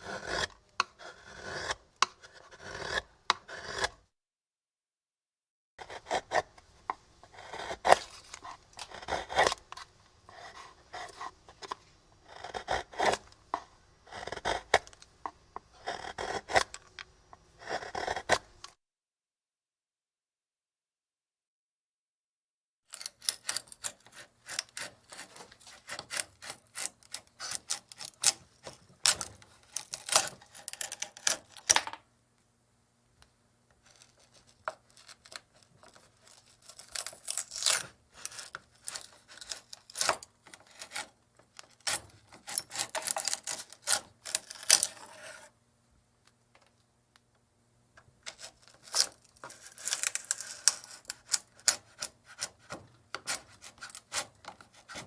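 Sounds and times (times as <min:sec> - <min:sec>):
chisel scraping wood: 0:00.0 - 0:04.0, 0:05.8 - 0:18.7, 0:22.9 - 0:31.8, 0:33.8 - 0:45.6, 0:48.2 - 0:55.0.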